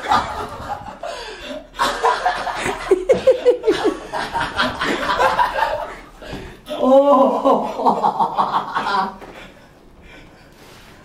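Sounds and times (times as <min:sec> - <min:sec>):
people laughing: 0:00.0 - 0:09.5.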